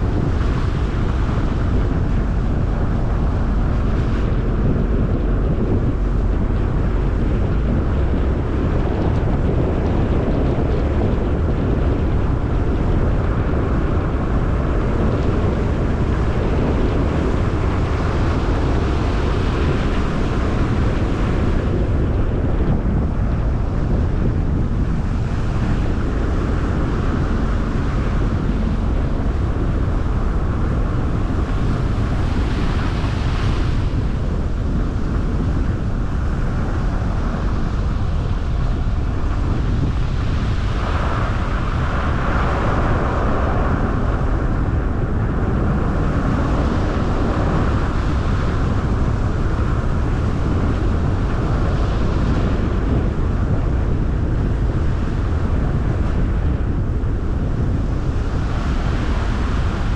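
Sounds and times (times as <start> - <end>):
road rumble and tyre hiss: 0.0 - 59.9
wind buffeting microphone: 0.0 - 59.9.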